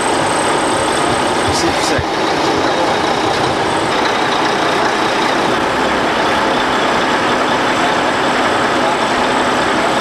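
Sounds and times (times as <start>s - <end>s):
heavy machinery engine running: 0.0s - 10.0s.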